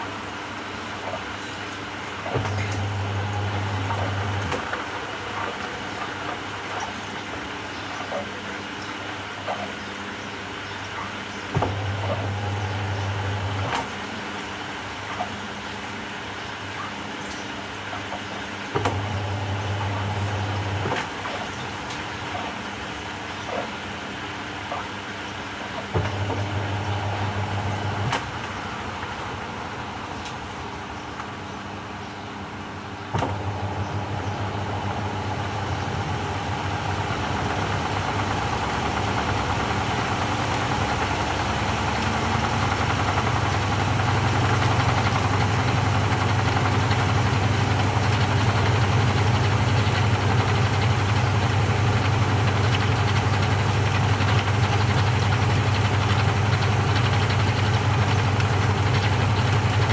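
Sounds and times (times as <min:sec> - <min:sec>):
washing machine motor humming: 0:00.0 - 0:08.2, 0:11.5 - 0:15.2, 0:18.7 - 0:23.8, 0:25.6 - 0:59.9.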